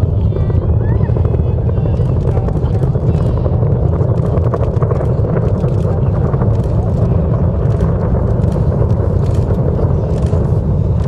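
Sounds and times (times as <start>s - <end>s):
distant rocket launch roar: 0.0s - 11.0s.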